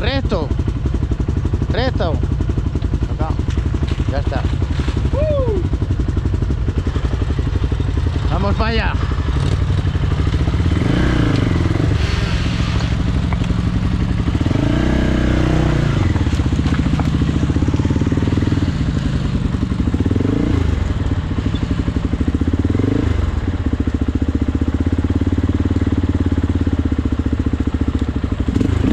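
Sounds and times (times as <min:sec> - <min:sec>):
off-road vehicle engine revving: 0:00.0 - 0:28.9.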